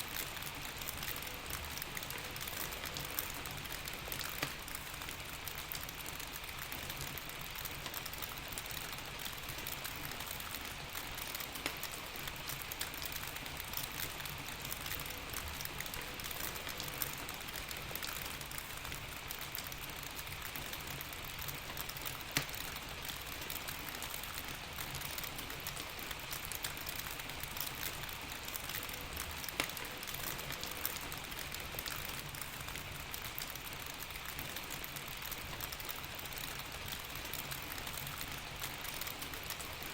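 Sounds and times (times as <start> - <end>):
sharp ticks and pops: 0.0 - 39.9
steady rain hiss: 0.0 - 39.9.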